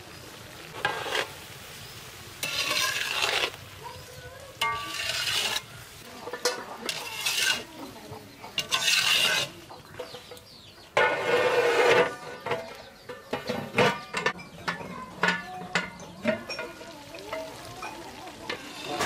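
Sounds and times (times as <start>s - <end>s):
food sizzling: 0.0s - 19.0s
spatula scraping frying pan: 0.7s - 1.7s, 2.4s - 3.7s, 4.5s - 19.0s.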